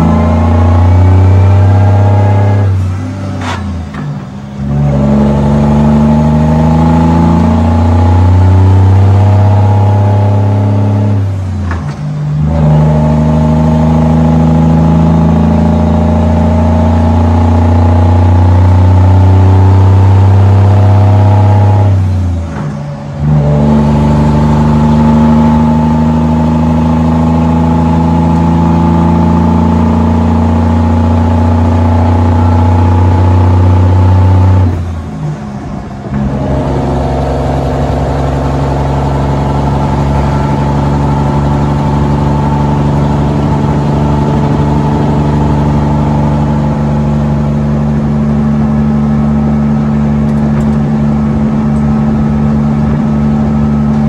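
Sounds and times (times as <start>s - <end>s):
diesel truck engine accelerating: 0.0s - 54.0s.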